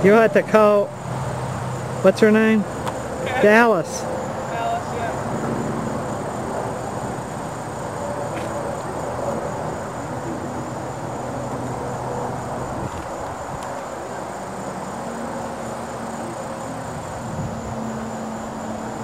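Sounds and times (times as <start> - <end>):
crickets droning: 0.0 - 19.0.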